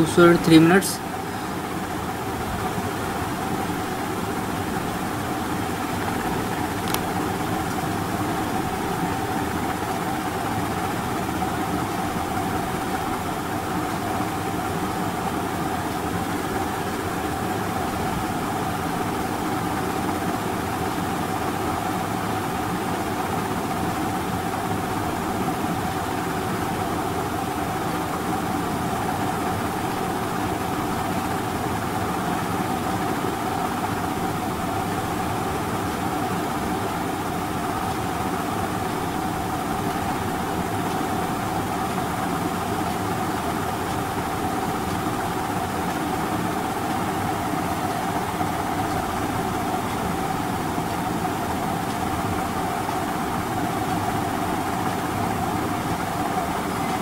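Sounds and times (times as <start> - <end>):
machine hum with constant tone: 0.0 - 57.0.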